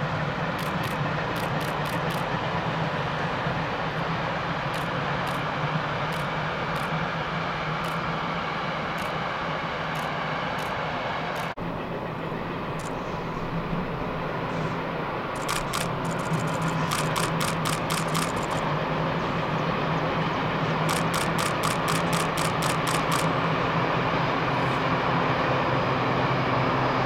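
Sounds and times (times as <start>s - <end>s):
steam locomotive exhaust beats: 0.0s - 27.0s
train rumble: 0.0s - 27.0s.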